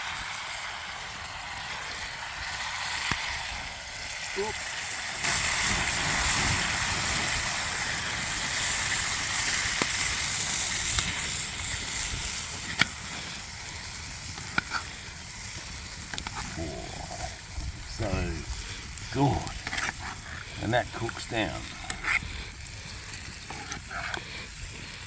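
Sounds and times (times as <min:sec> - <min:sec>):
meat and sauce sizzling in a pan: 0:00.0 - 0:25.0.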